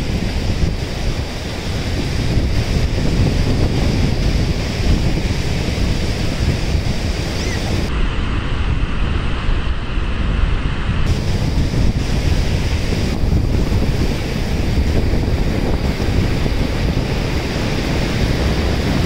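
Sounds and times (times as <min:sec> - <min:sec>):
ocean surf on beach: 0:00.0 - 0:19.0
wind buffeting microphone: 0:00.0 - 0:19.0.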